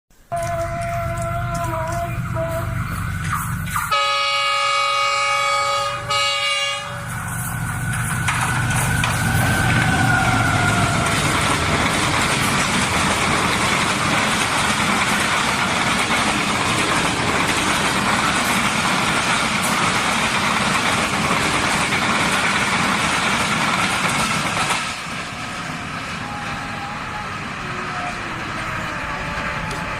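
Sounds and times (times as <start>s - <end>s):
passenger train rolling past: 0.2s - 29.9s.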